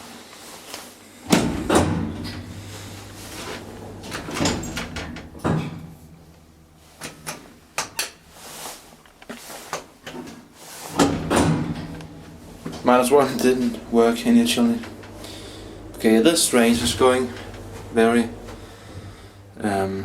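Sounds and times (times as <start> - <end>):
elevator car knocks: 1.2 - 8.4, 10.9 - 20.0
low steady hum: 1.2 - 9.4, 10.9 - 20.0.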